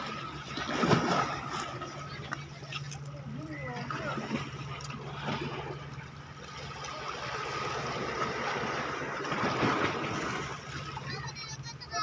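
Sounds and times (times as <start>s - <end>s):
low motor drone: 0.0s - 12.0s
sea water washing and trickling: 0.0s - 12.0s.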